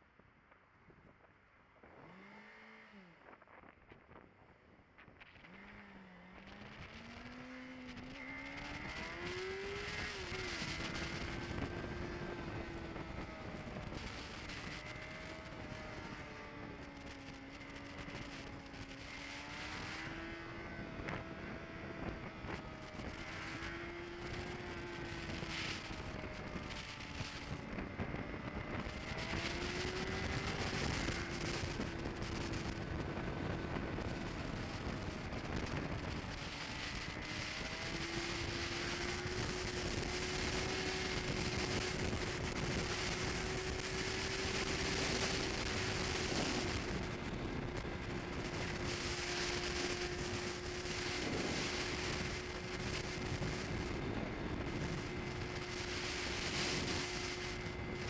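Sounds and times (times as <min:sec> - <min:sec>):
wind and road noise: 0:00.0 - 0:58.0
motorcycle engine: 0:01.8 - 0:58.0.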